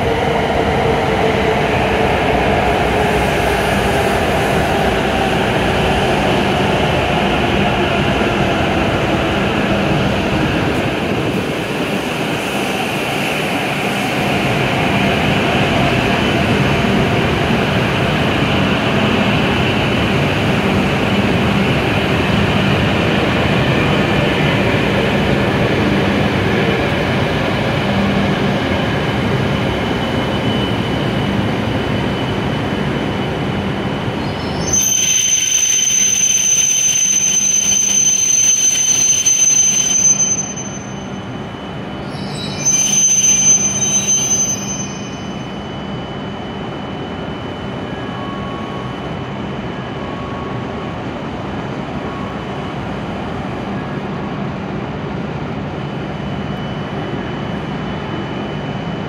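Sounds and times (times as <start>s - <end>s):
high-pitched whine: 0.0s - 59.0s.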